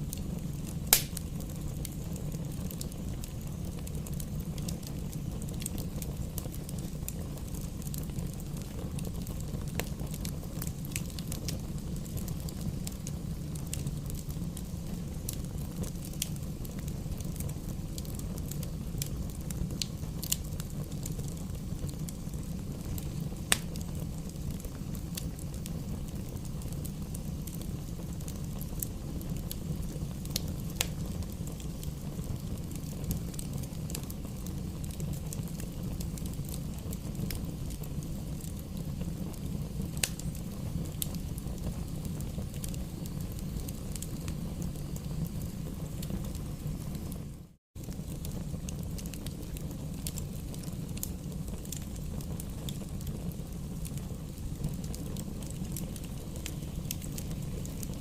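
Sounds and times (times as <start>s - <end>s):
logs crackling and popping: 0.0s - 47.2s, 47.8s - 58.0s
fire flames rumbling: 0.0s - 58.0s.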